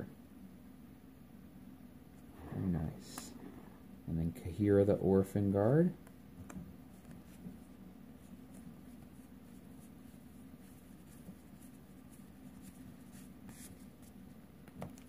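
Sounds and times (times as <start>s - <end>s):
low steady room hum: 0.0s - 15.0s.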